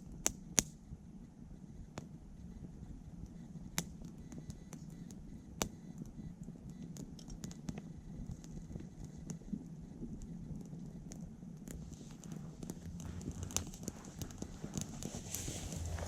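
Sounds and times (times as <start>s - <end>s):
low steady rumble: 0.0s - 16.0s
wood crackling in a stove: 0.0s - 16.0s.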